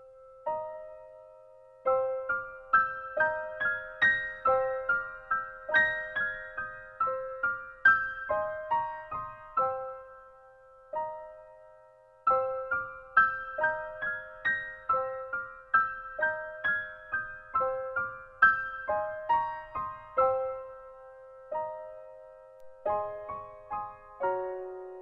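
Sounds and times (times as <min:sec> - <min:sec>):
light piano piece: 0:00.0 - 0:25.0.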